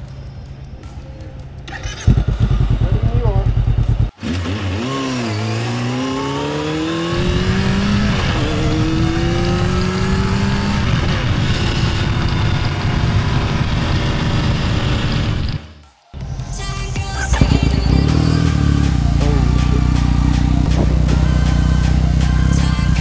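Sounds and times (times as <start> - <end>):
engine accelerating hard: 1.7 - 23.0.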